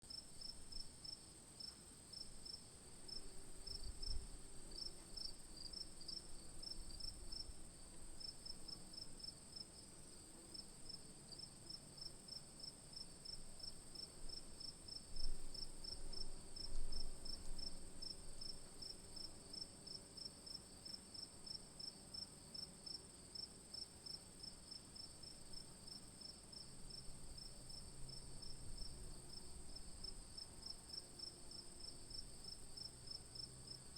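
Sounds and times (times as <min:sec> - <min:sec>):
cricket chirps: 0:00.1 - 0:33.9.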